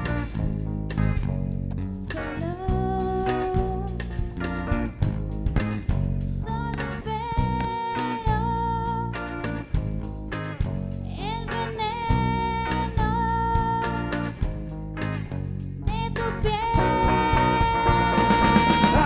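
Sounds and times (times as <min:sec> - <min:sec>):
drum kit: 0:00.0 - 0:19.0
electric bass: 0:00.0 - 0:19.0
electric guitar lead notes with vibrato: 0:00.0 - 0:19.0.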